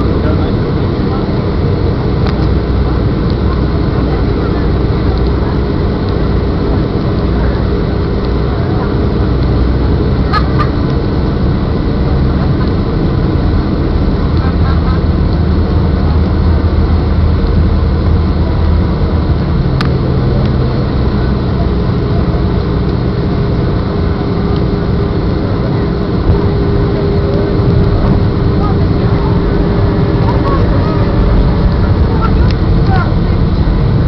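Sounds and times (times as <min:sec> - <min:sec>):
jet engines and rushing airflow: 0:00.0 - 0:34.0
steady hum: 0:00.0 - 0:34.0.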